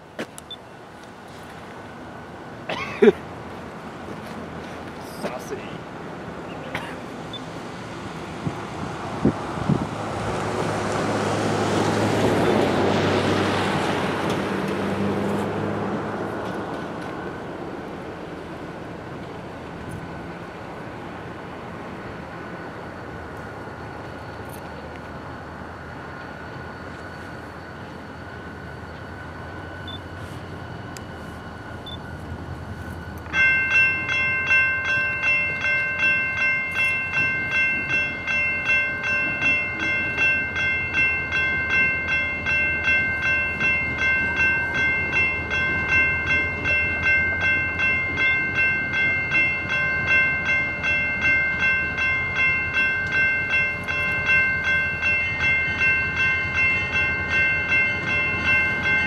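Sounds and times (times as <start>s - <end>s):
railroad crossing bell ringing: 10.1s - 59.0s.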